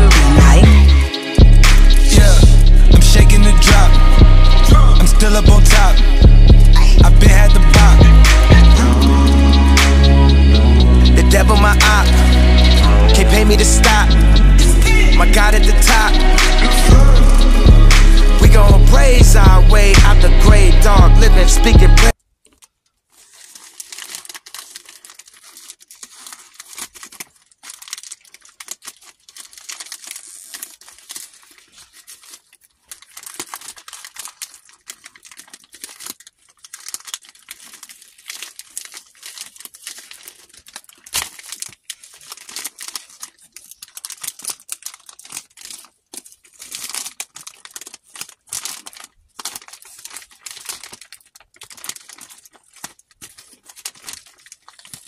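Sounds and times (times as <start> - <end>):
plastic bag crinkling and tearing: 0.0 - 17.6, 20.8 - 55.0.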